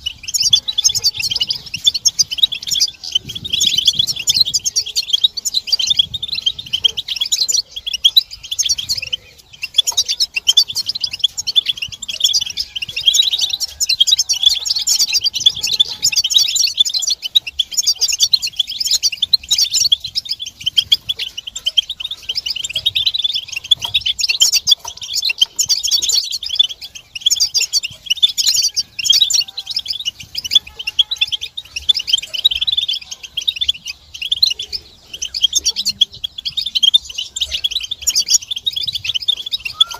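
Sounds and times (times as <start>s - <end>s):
finches twittering and singing: 0.0s - 39.9s.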